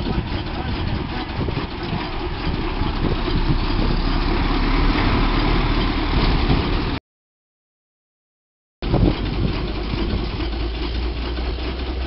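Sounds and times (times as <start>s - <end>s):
wind buffeting microphone: 0.0s - 7.0s, 8.8s - 12.0s.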